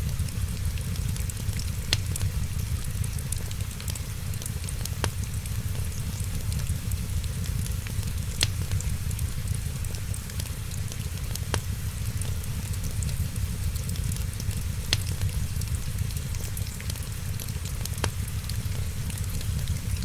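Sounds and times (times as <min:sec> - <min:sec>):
fireplace crackling and popping: 0:00.0 - 0:20.0
rain hiss: 0:00.0 - 0:20.0.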